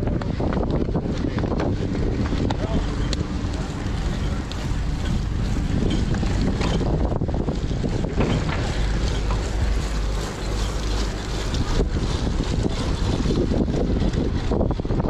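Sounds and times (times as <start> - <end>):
bike tyres on wet tarmac: 0.0 - 15.0
wind on microphone: 0.0 - 15.0.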